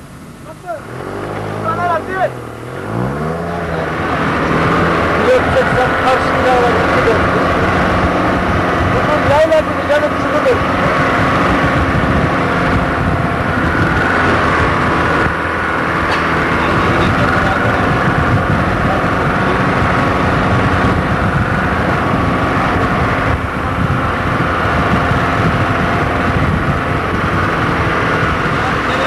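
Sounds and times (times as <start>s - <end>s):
vehicle engine running under load: 0.0s - 29.0s.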